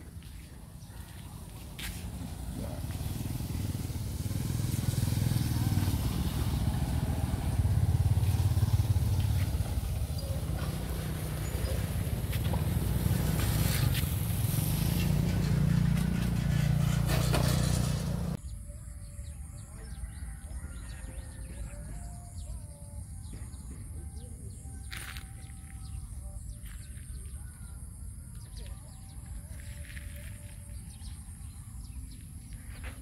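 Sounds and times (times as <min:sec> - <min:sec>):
motorcycle engine and road rumble: 0:00.0 - 0:18.7, 0:22.8 - 0:33.0.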